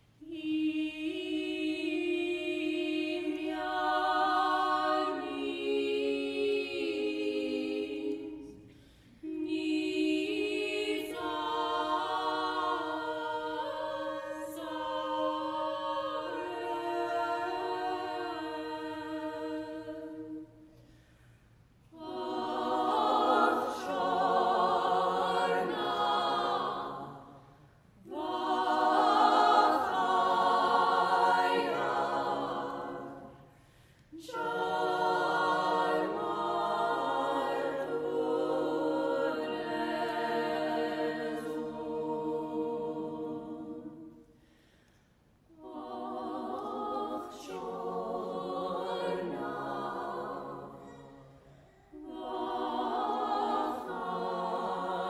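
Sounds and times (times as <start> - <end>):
women singing in harmony: 0.0 - 20.7, 21.9 - 33.6, 34.2 - 44.3, 45.5 - 55.0.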